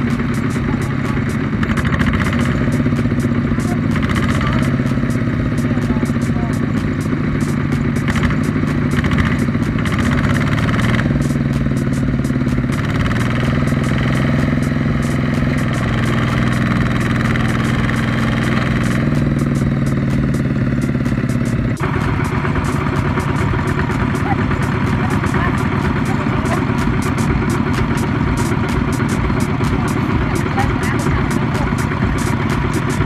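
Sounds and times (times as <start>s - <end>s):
diesel tractor engine clattering: 0.0s - 33.0s.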